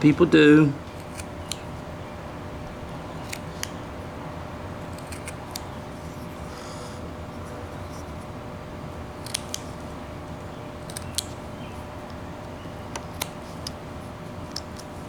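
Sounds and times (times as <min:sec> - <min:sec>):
steady low hum: 0:00.0 - 0:15.0
knife carving wood: 0:00.9 - 0:02.0, 0:02.7 - 0:04.0, 0:04.7 - 0:15.0.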